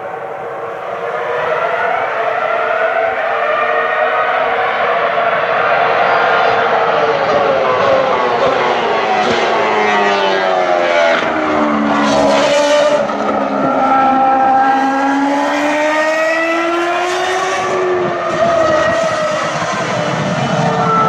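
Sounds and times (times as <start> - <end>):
racing car engines at high revs: 0.2 - 21.0.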